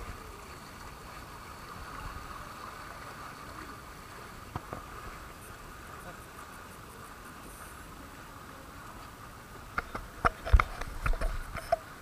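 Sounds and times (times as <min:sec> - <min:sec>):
water rushing down a slide: 0:00.0 - 0:12.0.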